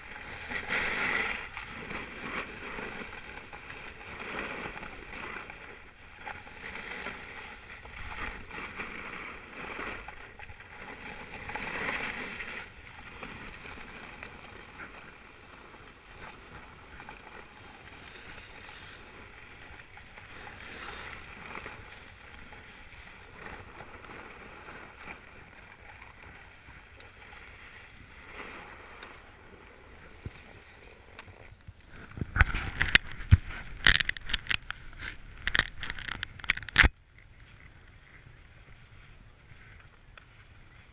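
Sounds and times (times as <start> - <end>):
skis sliding on snow: 0.0 - 40.9.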